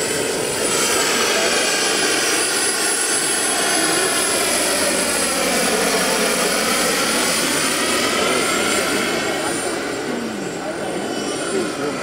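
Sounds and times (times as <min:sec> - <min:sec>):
helicopter engine and rotor noise: 0:00.0 - 0:12.0
turbine whine: 0:00.0 - 0:12.0.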